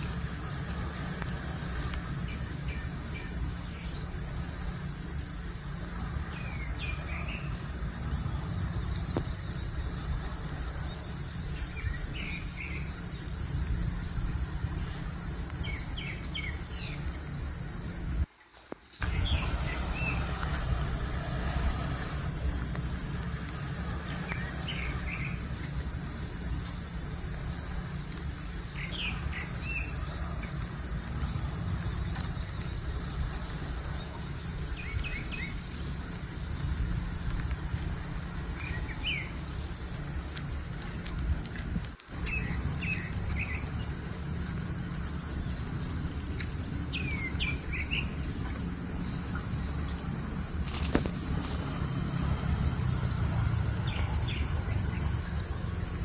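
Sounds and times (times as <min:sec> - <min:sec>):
low steady rumble: 0:00.0 - 0:18.3, 0:19.0 - 0:56.0
insects chirring: 0:00.0 - 0:56.0
small birds chirping: 0:00.0 - 0:56.0.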